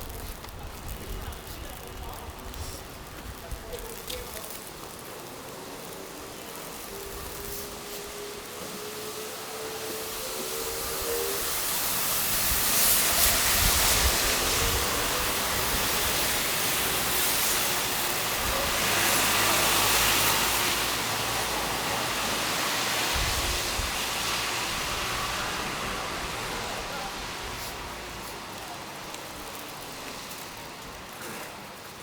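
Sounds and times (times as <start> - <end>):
tyres hissing through slush: 0.0 - 32.0.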